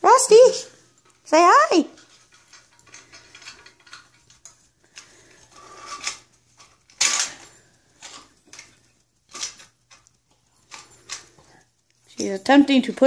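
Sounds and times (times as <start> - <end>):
metal fittings clinking and rattling: 0.0 - 13.0.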